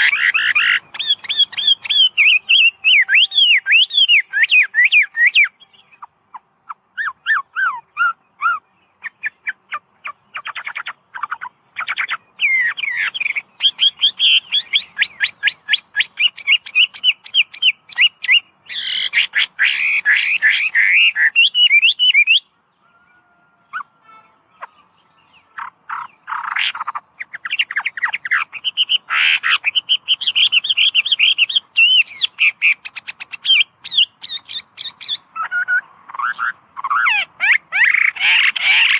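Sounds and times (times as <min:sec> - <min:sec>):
bird singing whistled notes: 0:00.0 - 0:38.9.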